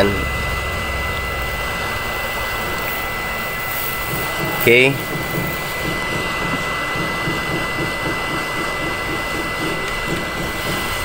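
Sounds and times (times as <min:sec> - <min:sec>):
hot air blower rushing: 0:00.0 - 0:11.0
thin high whine: 0:00.0 - 0:11.0.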